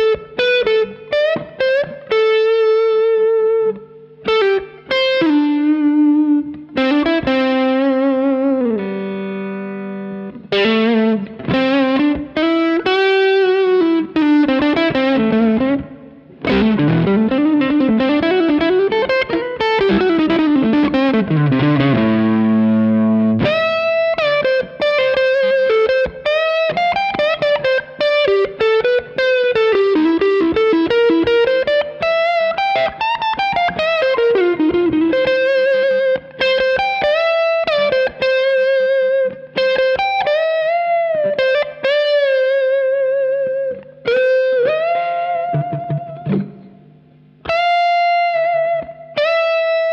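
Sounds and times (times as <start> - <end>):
overdriven electric guitar lead: 0.0 - 49.9.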